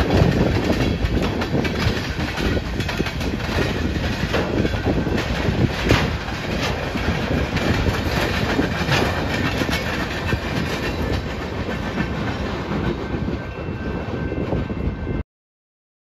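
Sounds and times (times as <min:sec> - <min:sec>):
wheels clicking over rail joints: 0:00.0 - 0:13.8
freight train rumbling past: 0:00.0 - 0:15.2.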